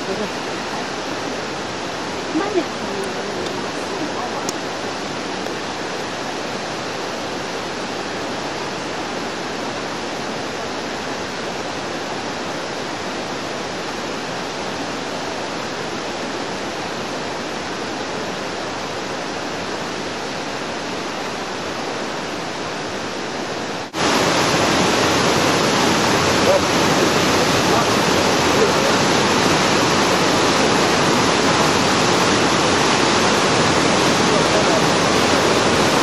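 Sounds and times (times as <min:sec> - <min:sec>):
waterfall rushing over rocks: 0:00.0 - 0:36.0.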